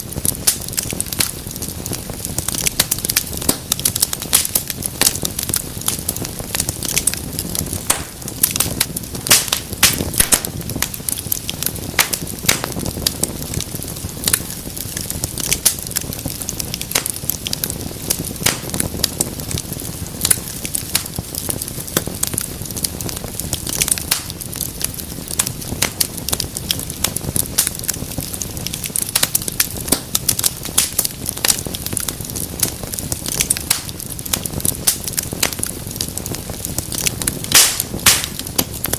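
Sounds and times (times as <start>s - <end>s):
fire pops and snaps: 0.0s - 38.9s
low rush of flames: 0.0s - 38.9s
wood fire crackling: 0.0s - 38.9s.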